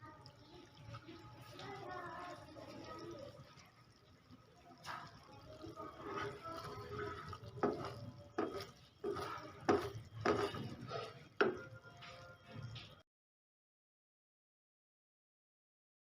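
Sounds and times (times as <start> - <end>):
spoon stirring thick liquid in pot: 0.0 - 13.0.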